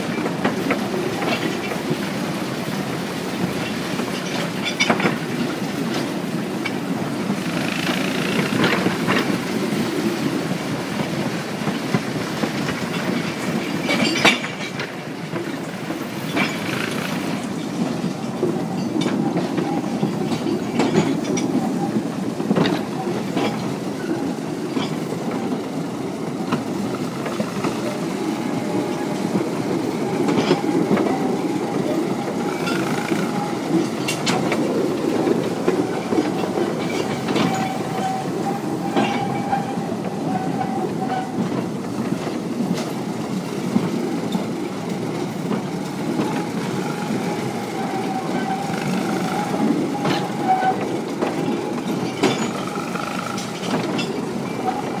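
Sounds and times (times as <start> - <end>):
wheels clicking over rail joints: 0.0 - 55.0
wheels rumbling on rail: 0.0 - 55.0.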